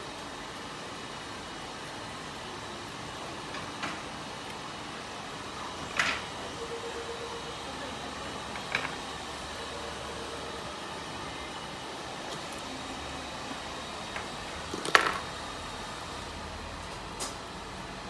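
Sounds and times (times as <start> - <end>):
room machinery hum: 0.0 - 18.0.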